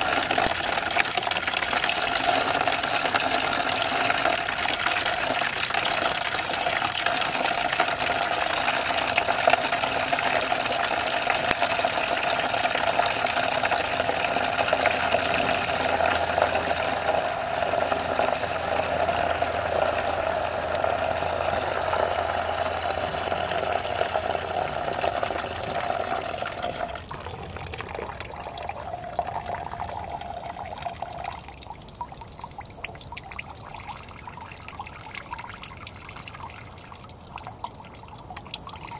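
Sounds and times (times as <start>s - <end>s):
coolant pouring into plastic basin: 0.0s - 38.9s.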